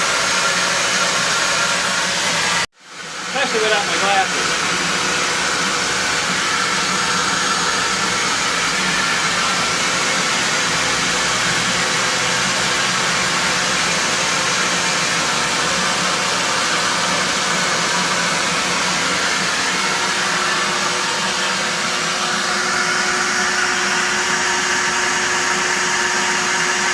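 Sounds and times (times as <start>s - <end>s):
motor with rush of air: 0.0s - 26.9s.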